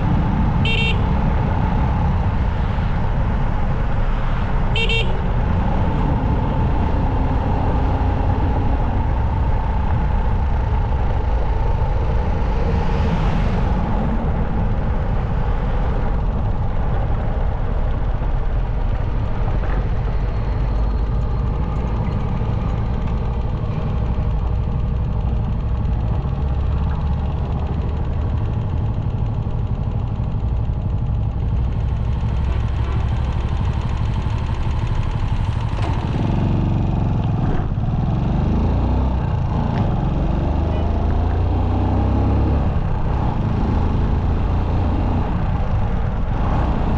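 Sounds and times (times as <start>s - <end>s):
motorcycle engine running: 0.0s - 13.2s, 13.8s - 46.9s
wind rumble on microphone: 0.0s - 41.4s, 42.2s - 46.9s.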